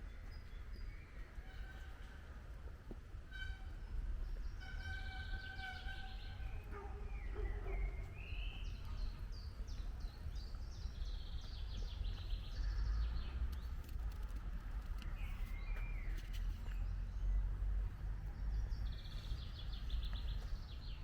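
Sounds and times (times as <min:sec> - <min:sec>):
songbirds singing: 0:03.8 - 0:21.0.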